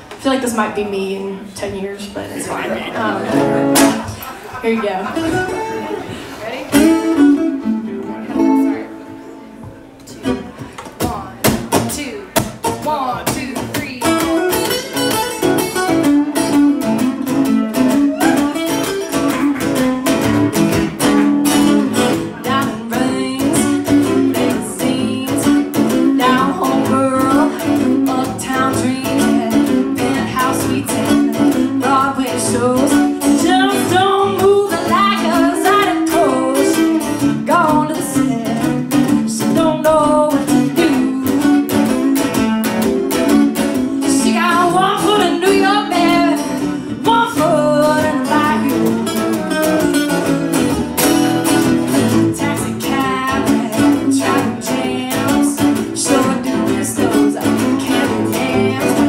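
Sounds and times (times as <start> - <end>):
acoustic guitars playing blues: 0.0 - 59.0.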